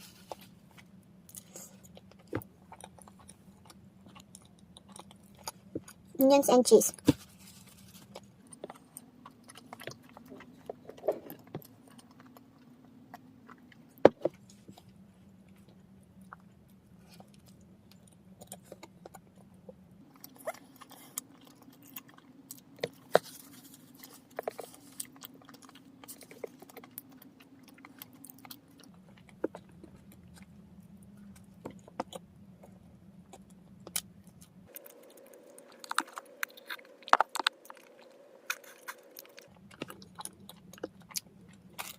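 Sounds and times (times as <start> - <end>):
chewing and biting bread: 0.0 - 6.2, 7.0 - 41.9
faint low hum: 0.0 - 41.9.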